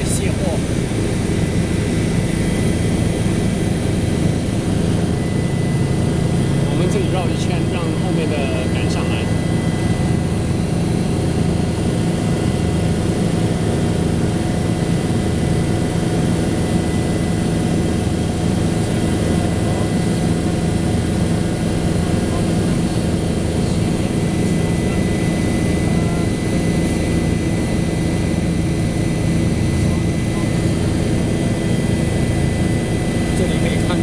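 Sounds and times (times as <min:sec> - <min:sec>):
helicopter engine and rotor drone: 0:00.0 - 0:34.0.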